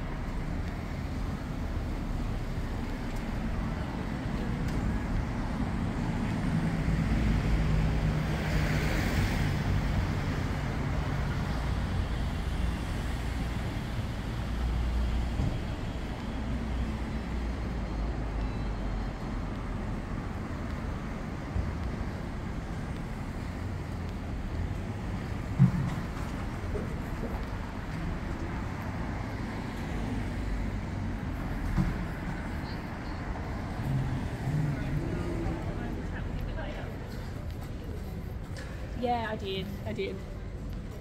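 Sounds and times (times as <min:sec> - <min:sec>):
vehicles passing: 0:00.0 - 0:41.0.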